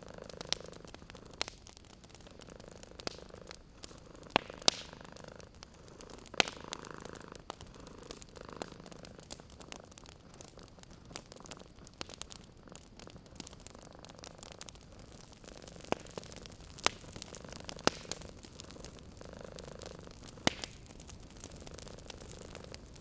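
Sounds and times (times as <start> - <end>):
cat purring: 0.0 - 23.0
wood fire crackling: 0.0 - 23.0
sharp fire pops: 0.1 - 23.0.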